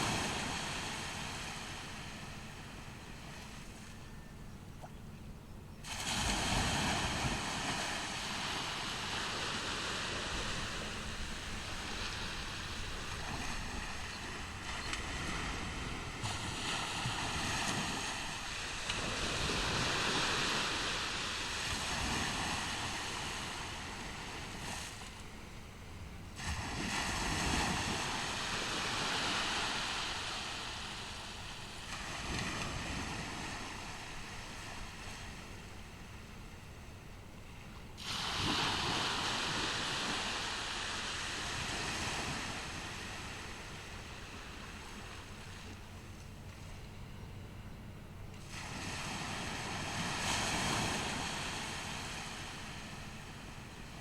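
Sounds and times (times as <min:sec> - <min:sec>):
ocean waves breaking on beach: 0:00.0 - 0:05.0, 0:05.8 - 0:47.1, 0:48.2 - 0:54.0.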